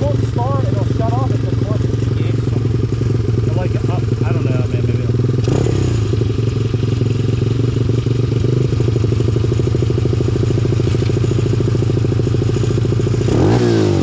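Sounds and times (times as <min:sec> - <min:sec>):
motorbike engine idling: 0:00.0 - 0:14.0.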